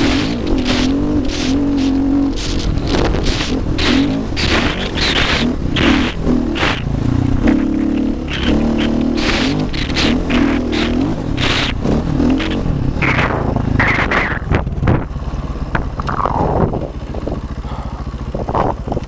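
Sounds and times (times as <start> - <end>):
dirt bike engine revving: 0.0 - 18.7.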